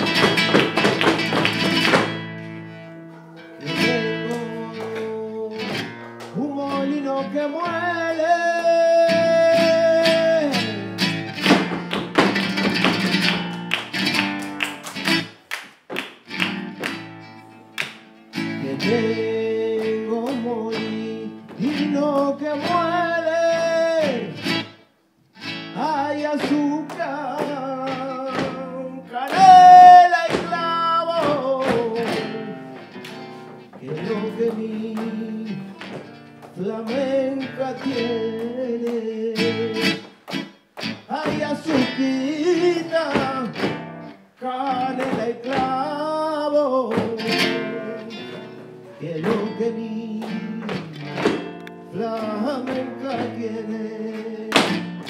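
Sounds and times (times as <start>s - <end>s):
dancers' footwork taps: 0.0s - 2.6s, 3.7s - 6.9s, 8.5s - 24.7s, 25.8s - 55.0s
flamenco guitar: 0.0s - 55.0s.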